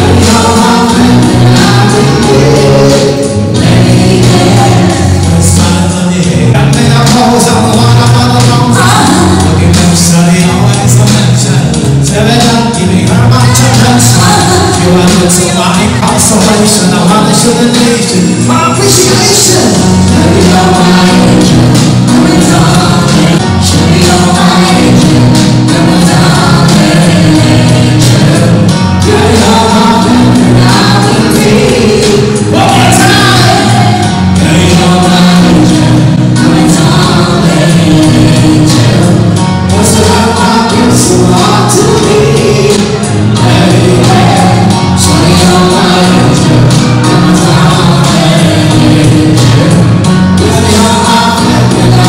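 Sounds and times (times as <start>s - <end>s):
bass line: 0.0s - 52.0s
live band playing dance music: 0.0s - 52.0s.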